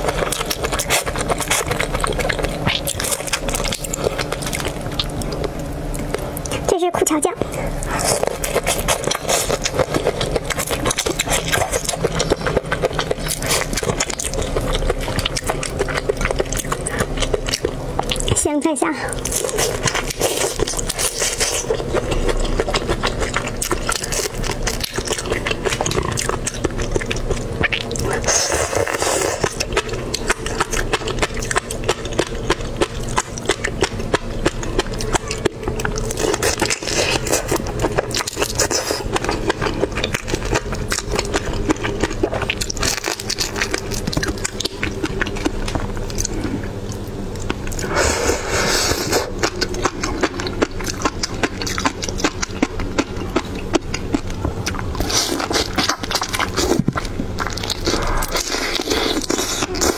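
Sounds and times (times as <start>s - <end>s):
prawn shell crackling: 0.0s - 6.7s, 7.6s - 18.3s, 19.2s - 59.9s
wet chewing sounds: 0.0s - 59.9s.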